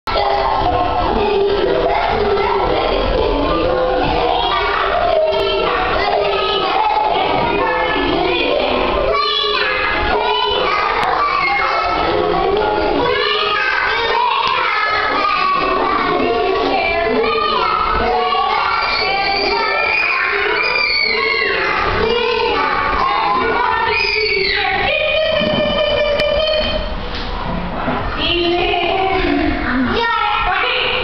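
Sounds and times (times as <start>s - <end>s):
children singing with music: 0.1s - 31.0s.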